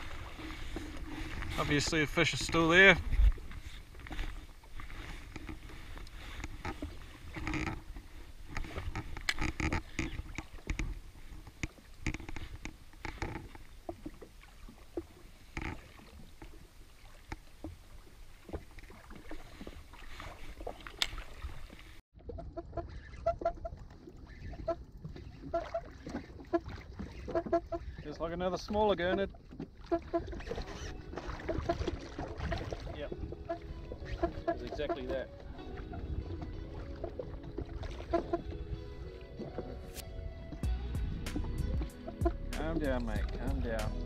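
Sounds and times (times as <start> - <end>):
waves lapping against hull: 0.0 - 44.0.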